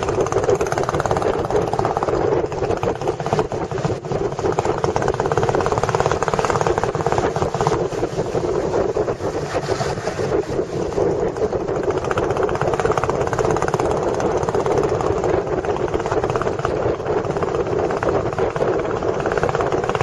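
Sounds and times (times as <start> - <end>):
motorboat engine chugging: 0.0 - 20.0.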